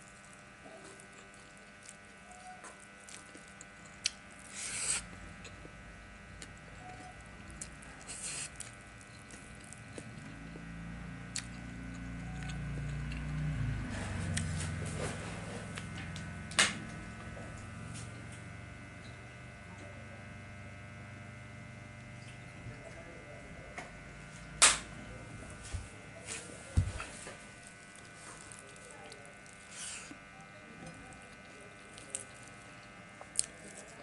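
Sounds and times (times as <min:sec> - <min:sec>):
electrical buzz: 0:00.0 - 0:34.0.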